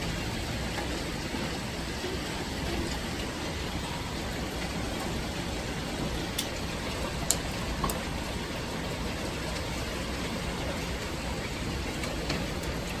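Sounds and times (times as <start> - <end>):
rain and hail downpour: 0.0 - 13.0.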